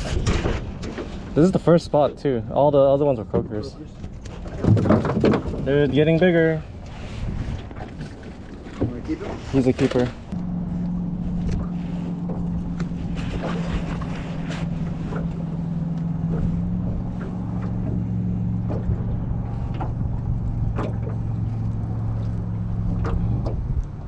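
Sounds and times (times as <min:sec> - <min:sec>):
boat motor humming: 0:02.0 - 0:24.0.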